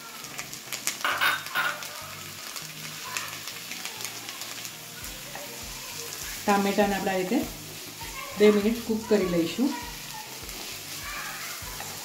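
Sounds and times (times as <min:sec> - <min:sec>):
food sizzling in hot oil: 0:00.0 - 0:12.0
spatula stirring and scraping: 0:00.8 - 0:12.0.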